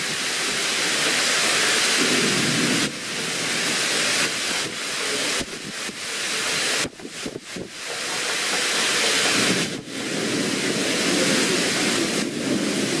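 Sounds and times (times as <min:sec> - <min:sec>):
torrential rain pouring: 0:00.0 - 0:13.0
wind gusts: 0:00.0 - 0:13.0.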